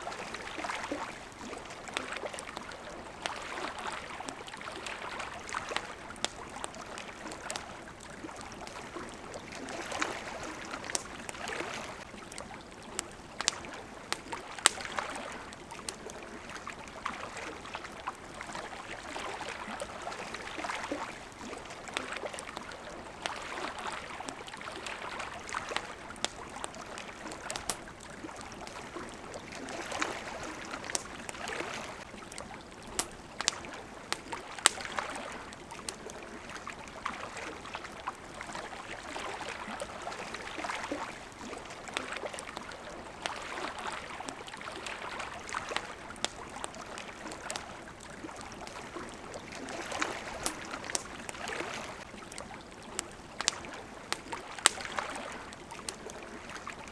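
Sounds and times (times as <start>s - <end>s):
campfire crackling: 0.0s - 56.9s
small waves lapping: 0.0s - 56.9s.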